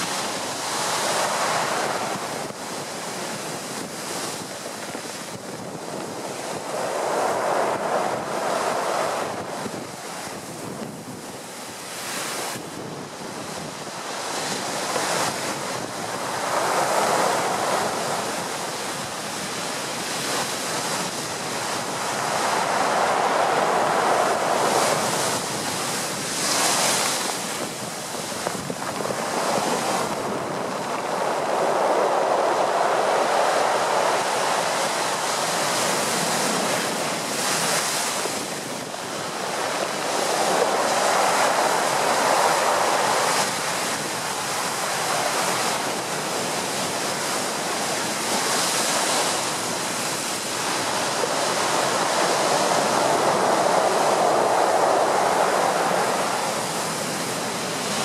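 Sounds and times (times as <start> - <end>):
waves breaking against sea wall: 0.0 - 58.0
wind blowing on microphone: 0.0 - 58.0.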